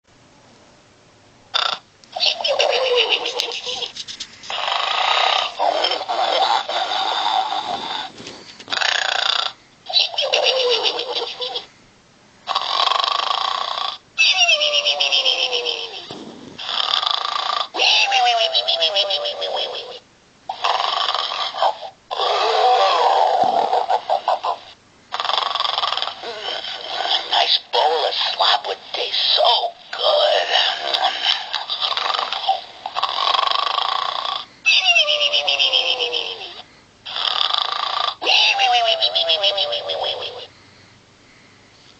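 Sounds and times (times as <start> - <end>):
pig snoring: 1.6 - 3.9, 4.5 - 11.7, 12.4 - 14.0, 14.9 - 28.5, 29.2 - 34.5, 35.4 - 40.5.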